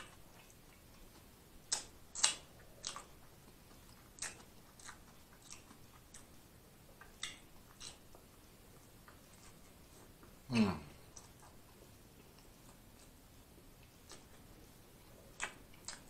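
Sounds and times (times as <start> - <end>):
person chewing with wet mouth clicks: 0.0 - 16.0.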